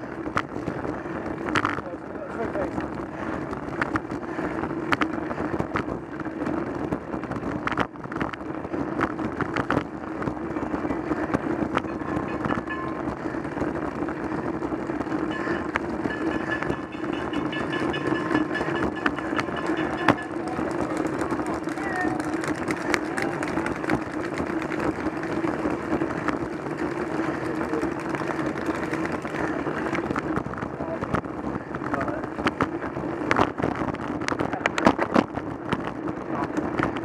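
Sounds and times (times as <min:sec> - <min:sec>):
bicycle tyre and wind noise: 0:00.0 - 0:37.0
constant hum: 0:00.0 - 0:37.0.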